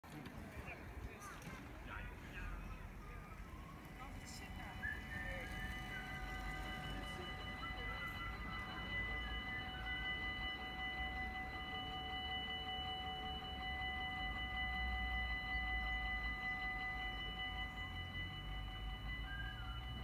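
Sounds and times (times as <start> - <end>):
level crossing warning bells: 0.6 - 20.0.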